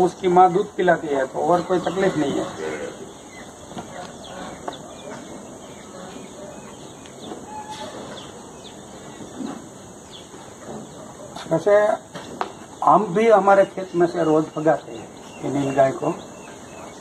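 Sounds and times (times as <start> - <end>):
birds chirping: 0.0 - 17.0
faint steady background noise: 0.0 - 17.0.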